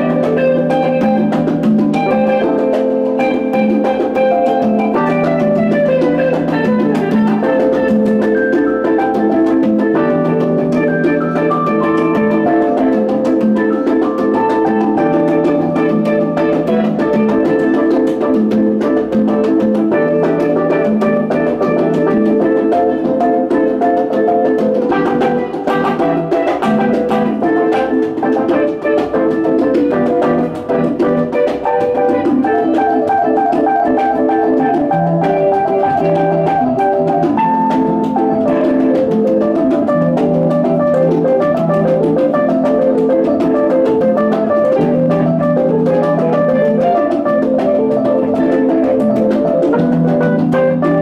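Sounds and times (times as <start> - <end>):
conga drums: 0.0 - 51.0
electric guitar: 0.0 - 51.0
keyboard chords: 0.0 - 51.0.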